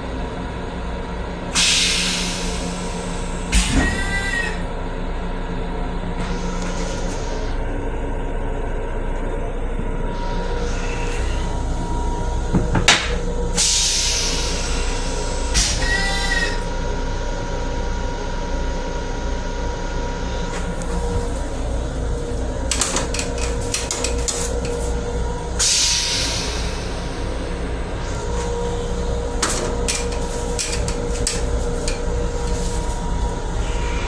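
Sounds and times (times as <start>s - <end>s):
constant hum: 0.0s - 34.0s
train low rumble: 0.0s - 34.0s.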